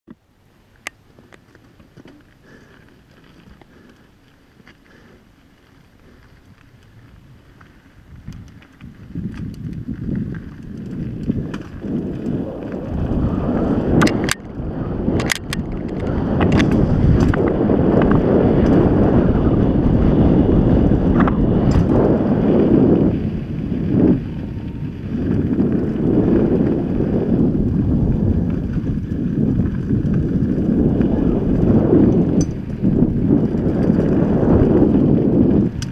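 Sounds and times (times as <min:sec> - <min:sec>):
bike tyres rumbling over dirt: 0:00.5 - 0:35.9
bike clacks and rattles: 0:00.8 - 0:22.5, 0:24.5 - 0:35.9
wind buffeting microphone: 0:05.7 - 0:35.9.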